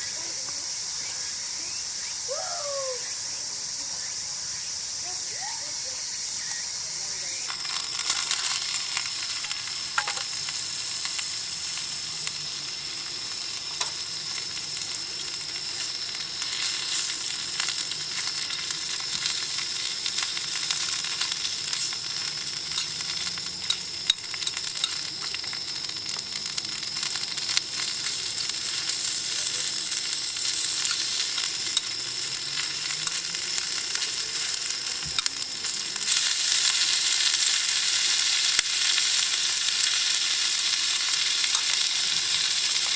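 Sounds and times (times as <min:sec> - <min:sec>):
food sizzling in a hot pan: 0:00.0 - 0:42.9.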